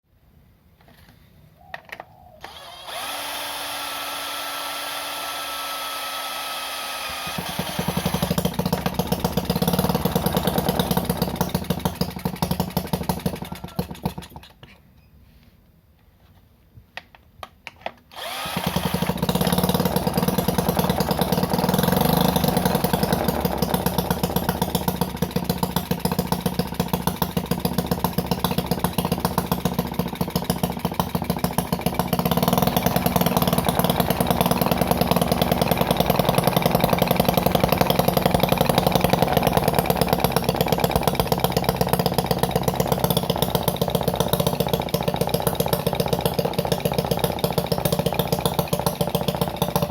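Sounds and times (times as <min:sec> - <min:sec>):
small engine running: 0:02.4 - 0:14.5, 0:18.1 - 0:49.9.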